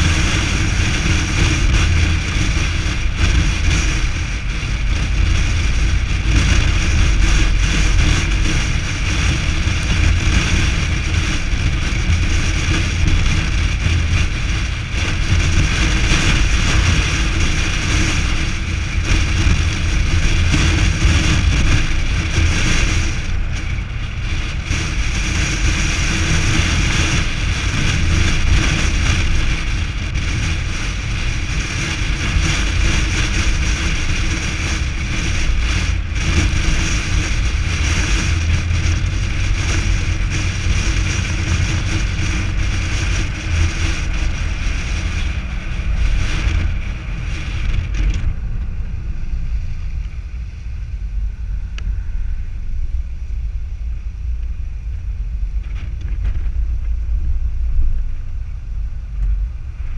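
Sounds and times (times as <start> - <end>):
low engine rumble: 0.0 - 59.9
tyre and wind noise: 0.0 - 59.9.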